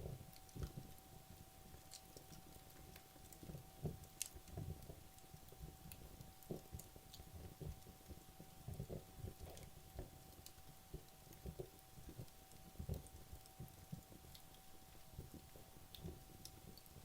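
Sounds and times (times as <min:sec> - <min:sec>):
faint steady hum: 0:00.0 - 0:17.0
logs crackling in fireplace: 0:00.0 - 0:17.0.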